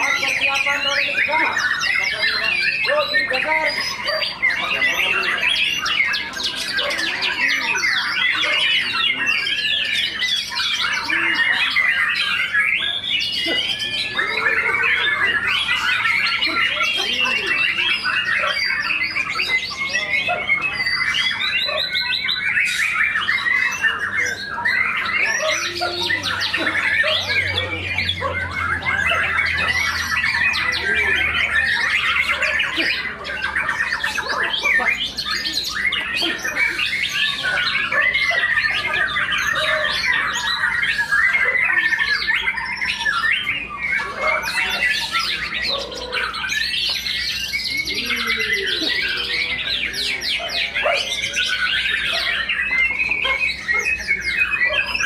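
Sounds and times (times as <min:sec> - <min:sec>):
many songbirds singing: 0:00.0 - 0:55.0.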